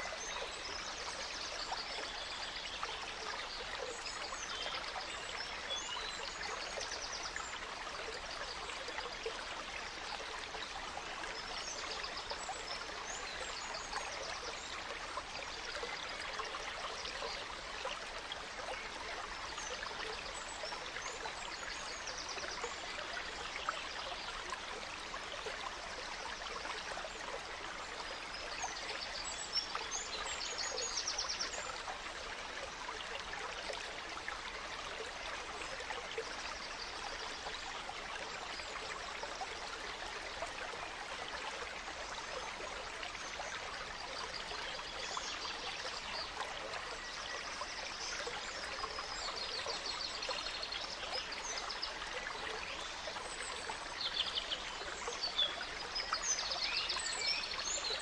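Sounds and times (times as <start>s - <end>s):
stream flowing: 0.0s - 58.0s.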